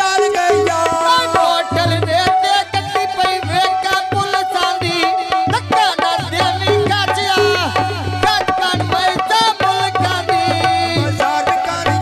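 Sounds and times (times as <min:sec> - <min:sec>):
hand drum rhythm: 0:00.0 - 0:12.0
harmonium: 0:00.0 - 0:12.0
man singing long notes: 0:00.0 - 0:12.0.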